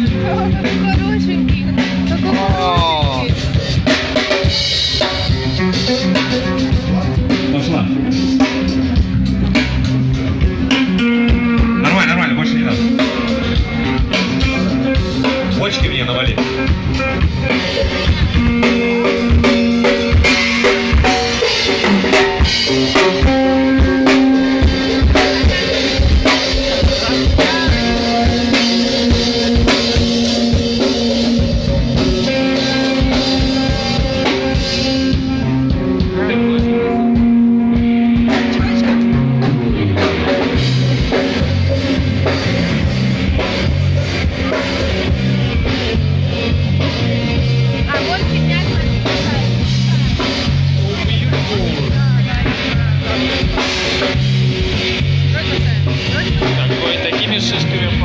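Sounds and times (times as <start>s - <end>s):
bass line: 0.0s - 58.0s
drum kit beat: 0.0s - 58.0s
guitar: 0.0s - 58.0s
rock music: 0.0s - 58.0s.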